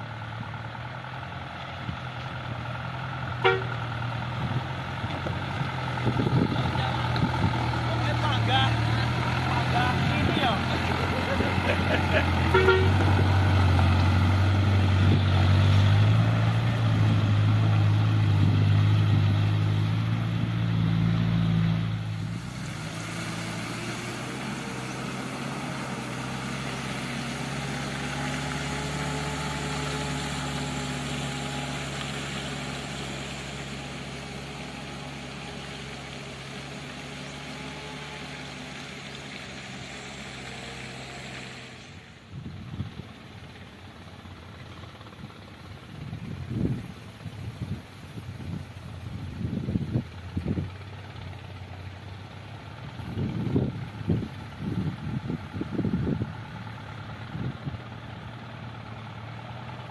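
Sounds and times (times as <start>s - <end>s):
heavy vehicle engine running: 0.0s - 59.9s.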